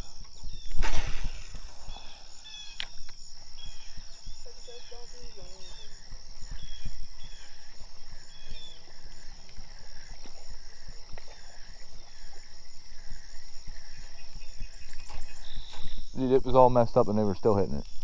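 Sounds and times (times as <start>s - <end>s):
insects buzzing high-pitched: 0.0s - 18.0s
pulsing insect call: 0.0s - 18.0s.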